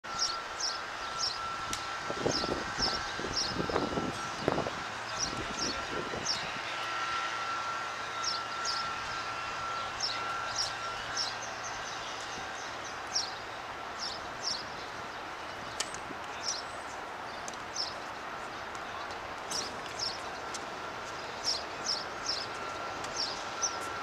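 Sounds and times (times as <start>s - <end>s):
outdoor background hum: 0.0s - 24.0s.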